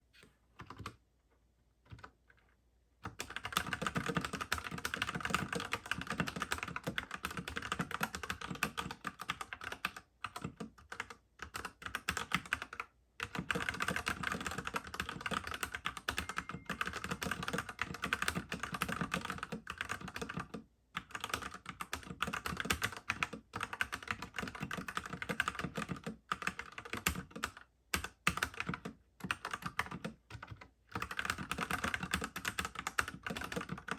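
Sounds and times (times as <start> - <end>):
mechanical keyboard typing: 0.6 - 1.0, 1.9 - 2.4, 3.0 - 33.9.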